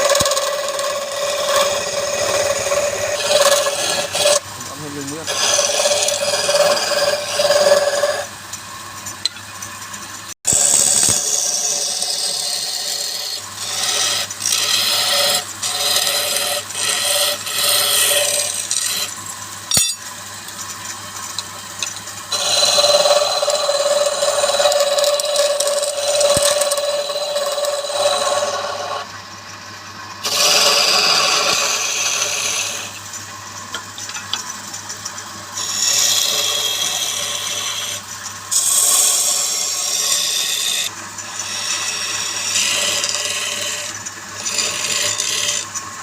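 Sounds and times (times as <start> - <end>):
lathe motor hum: 0.0 - 8.3, 10.5 - 19.7, 20.3 - 29.6, 30.2 - 46.0
lathe tool scraping wood: 0.0 - 9.2, 10.5 - 19.9, 20.5 - 29.2, 30.2 - 46.0.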